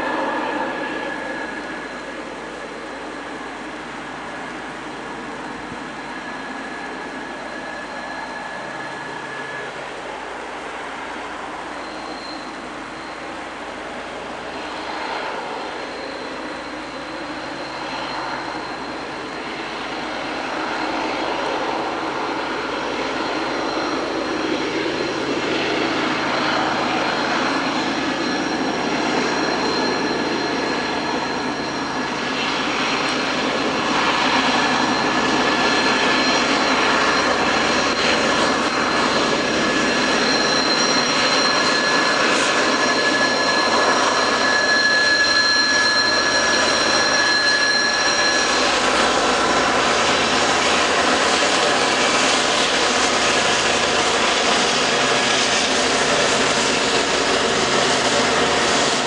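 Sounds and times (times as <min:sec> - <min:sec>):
diesel locomotive engines rumbling: 0:00.0 - 0:59.0
high-pitched whine: 0:00.0 - 0:59.0.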